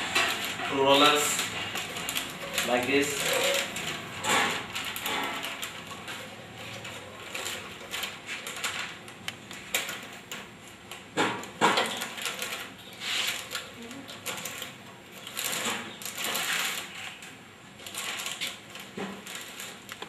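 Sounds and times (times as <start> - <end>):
plastic film crinkling: 0.0 - 10.0, 11.9 - 20.0.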